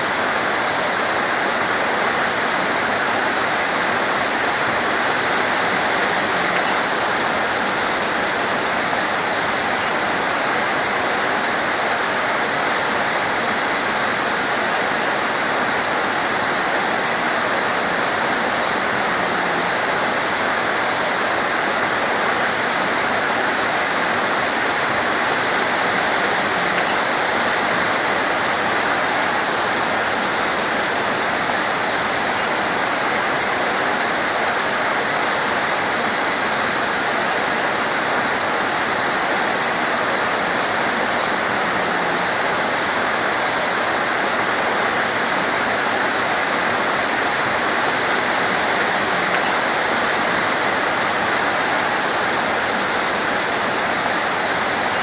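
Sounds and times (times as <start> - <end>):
torrential rain falling: 0.0 - 55.0.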